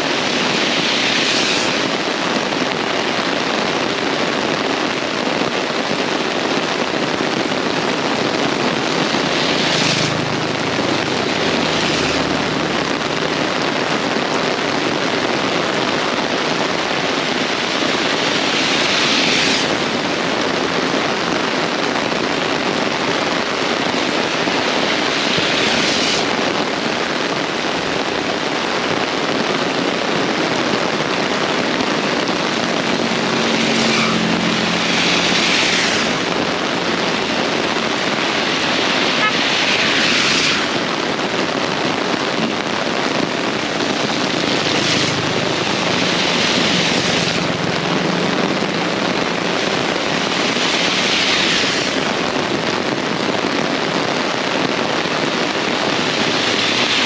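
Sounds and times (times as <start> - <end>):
heavy rain pouring: 0.0 - 57.0
strong wind: 0.0 - 57.0.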